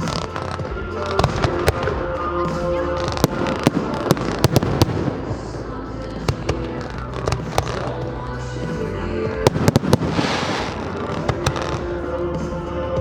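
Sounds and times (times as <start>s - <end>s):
fireworks exploding: 0.0s - 13.0s
music: 0.0s - 13.0s.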